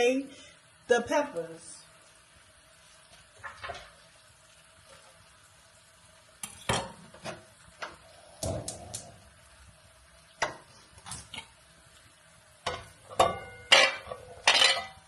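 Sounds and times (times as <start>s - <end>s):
peppers sauteing in oil: 0.0s - 15.0s.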